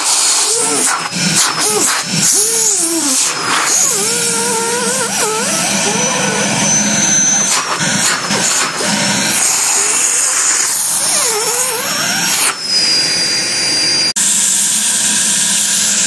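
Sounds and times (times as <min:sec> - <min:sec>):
vacuum running: 0:00.0 - 0:16.0.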